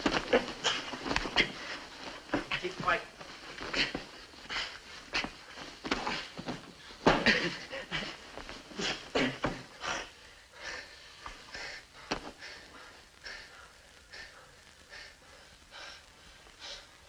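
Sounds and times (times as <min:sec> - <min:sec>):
people breathing hard: 0:00.0 - 0:17.0.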